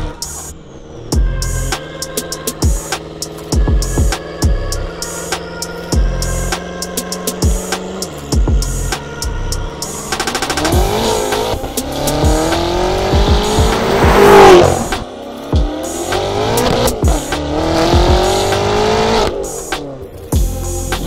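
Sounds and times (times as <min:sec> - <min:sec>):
car engine accelerating: 0:00.0 - 0:21.0
music: 0:00.0 - 0:21.0.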